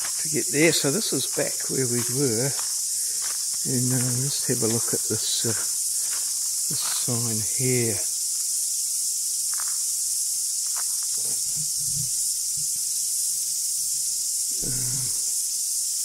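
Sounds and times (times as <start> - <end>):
cicada chorus hissing: 0.0 - 16.0.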